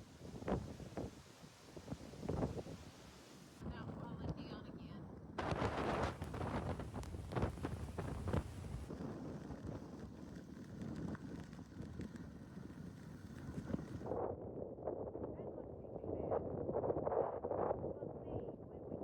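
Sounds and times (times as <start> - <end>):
gusty storm wind on microphone: 0.0 - 19.0.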